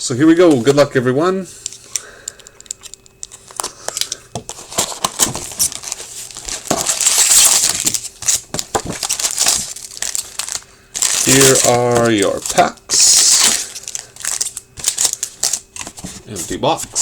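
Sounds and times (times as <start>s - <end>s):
plastic wrapping crinkling: 1.7s - 17.0s
cardboard clicks and rustles: 2.7s - 17.0s.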